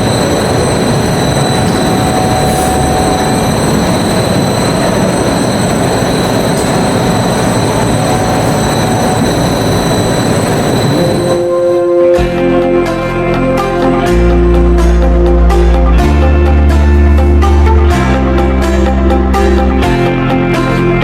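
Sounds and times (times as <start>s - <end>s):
machine running with whine: 0.0s - 21.0s.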